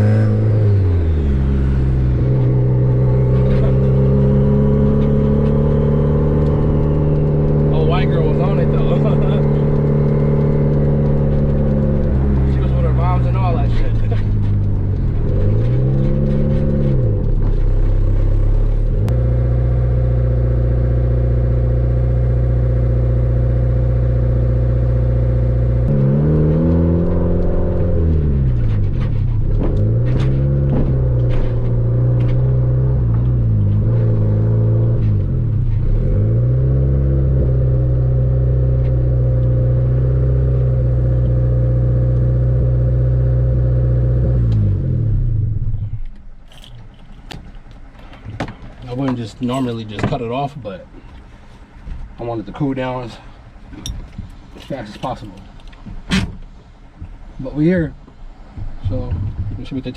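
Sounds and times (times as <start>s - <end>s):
car engine droning: 0.0s - 59.9s.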